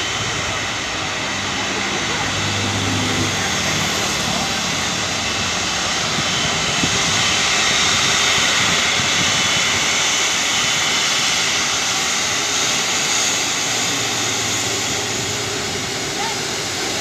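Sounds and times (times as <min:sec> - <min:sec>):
jet engines taxiing: 0:00.0 - 0:17.0.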